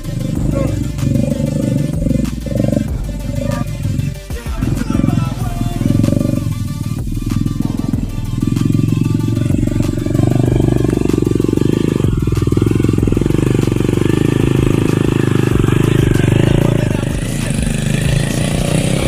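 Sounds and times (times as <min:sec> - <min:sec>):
motorcycle engine under load: 0:00.0 - 0:19.0.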